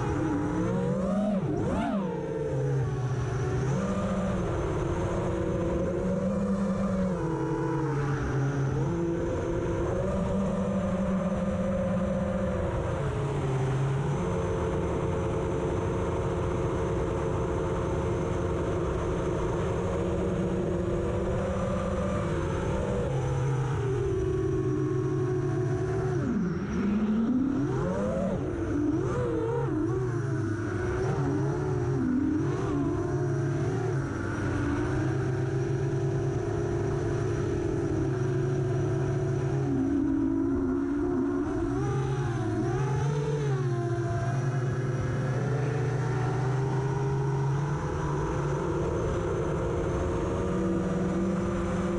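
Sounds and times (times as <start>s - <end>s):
quadcopter motors whining: 0.0s - 17.3s, 17.9s - 51.9s.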